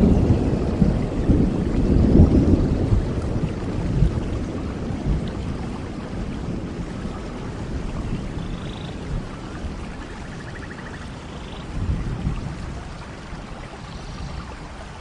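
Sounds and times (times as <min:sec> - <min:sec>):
rolling thunder: 0:00.0 - 0:11.0, 0:11.6 - 0:14.4
rain hissing: 0:00.0 - 0:15.0.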